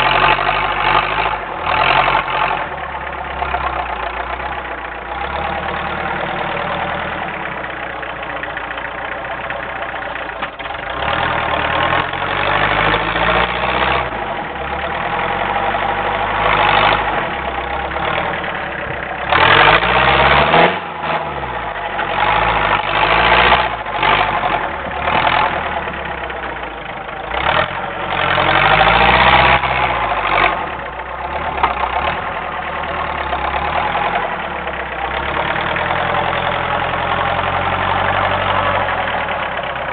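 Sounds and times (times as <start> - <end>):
tractor engine revving under load: 0.0 - 39.9.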